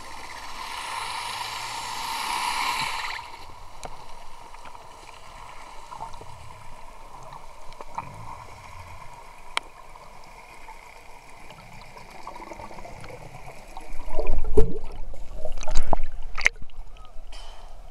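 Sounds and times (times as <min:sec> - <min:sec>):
faint underwater hiss and whine: 0:00.0 - 0:17.9.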